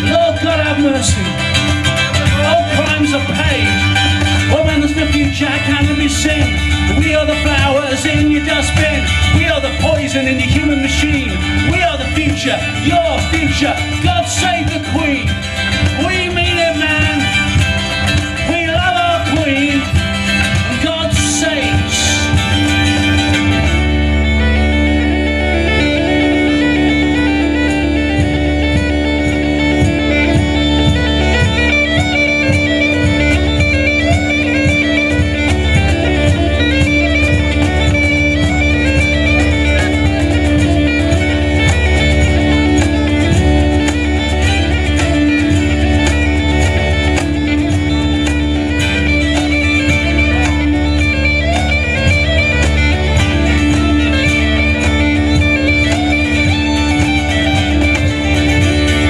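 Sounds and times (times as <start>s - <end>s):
cajon: 0.0s - 59.0s
double bass: 0.0s - 59.0s
strummed mandolin: 0.0s - 59.0s
uilleann pipes melody: 0.0s - 59.0s.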